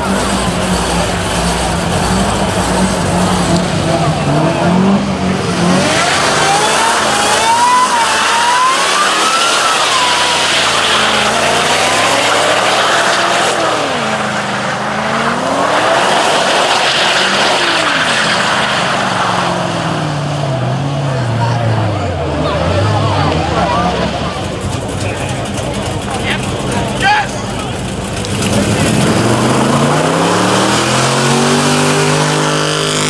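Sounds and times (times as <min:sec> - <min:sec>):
car engine revving hard: 0:00.0 - 0:33.0.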